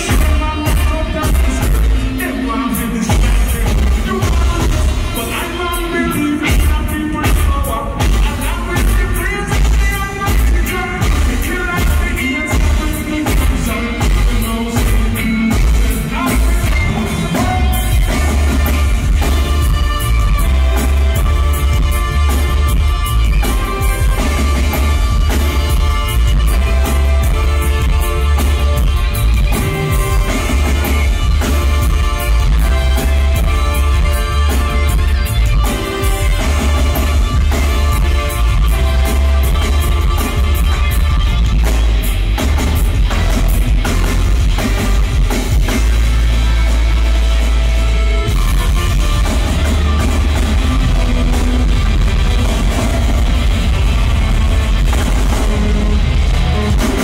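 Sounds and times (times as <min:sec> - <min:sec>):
live reggae band with singing: 0:00.0 - 0:57.0.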